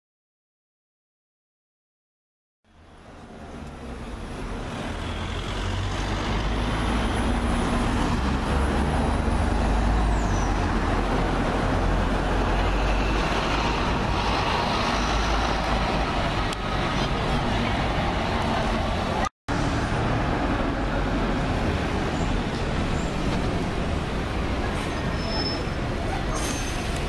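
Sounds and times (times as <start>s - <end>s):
road noise: 2.7s - 27.0s
bus engine rumble: 2.8s - 27.0s.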